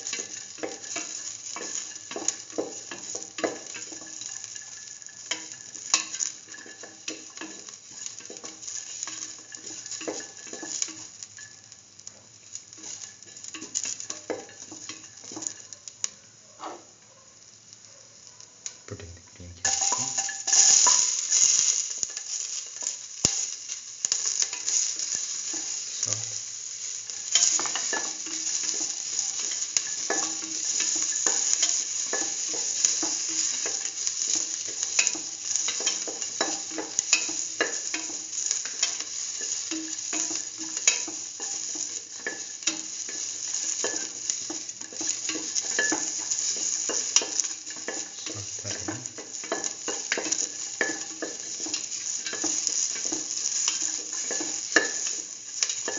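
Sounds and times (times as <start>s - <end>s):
vegetables sizzling in oil: 0.0s - 55.9s.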